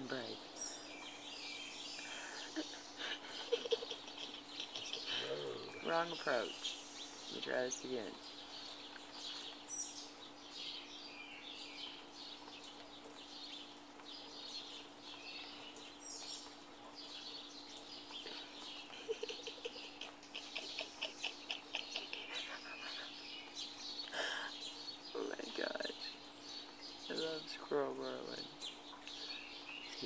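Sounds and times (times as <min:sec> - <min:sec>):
songbirds chirping and singing: 0:00.0 - 0:30.0.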